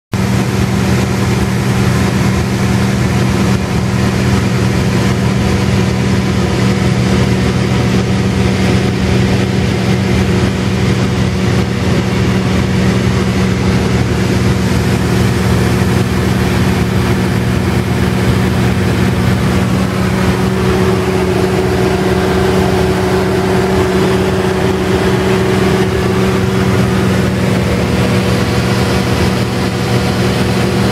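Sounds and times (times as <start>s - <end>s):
light aircraft engine droning: 0.2s - 30.9s.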